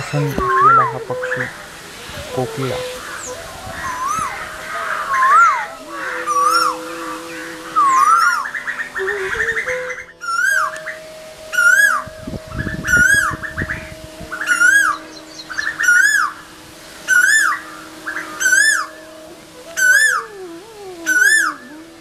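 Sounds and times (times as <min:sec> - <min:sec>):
birds chattering: 0:00.0 - 0:22.0
koel calling: 0:00.0 - 0:22.0.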